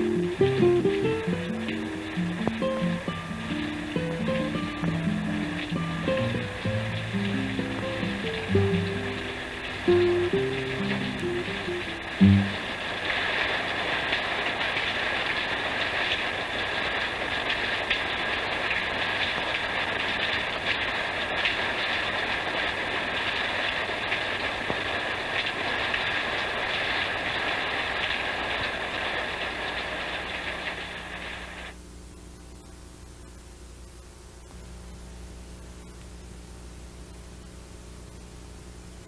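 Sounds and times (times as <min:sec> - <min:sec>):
heavy rain falling: 0:00.0 - 0:33.1.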